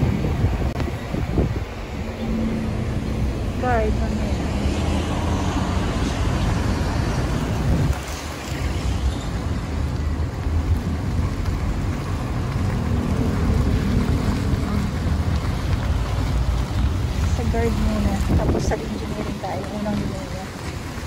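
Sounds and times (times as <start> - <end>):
car and tyres rumbling on road: 0.0 - 21.0
wind rushing over microphone: 0.0 - 21.0.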